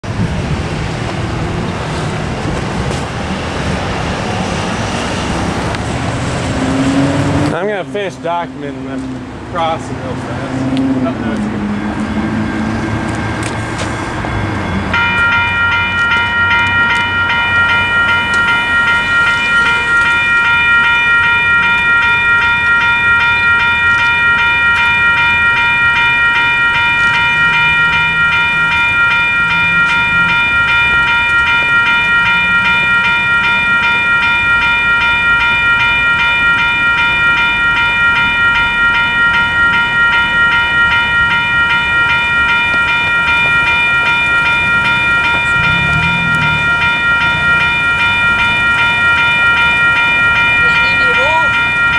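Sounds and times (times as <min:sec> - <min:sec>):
crossing bell ringing: 0:00.0 - 0:51.9.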